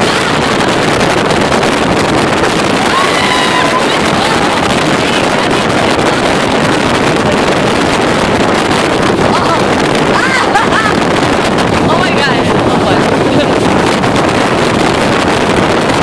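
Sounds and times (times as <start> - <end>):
boat wake rushing: 0.0 - 16.0
motorboat running at speed: 0.0 - 16.0
wind buffeting microphone: 0.0 - 16.0.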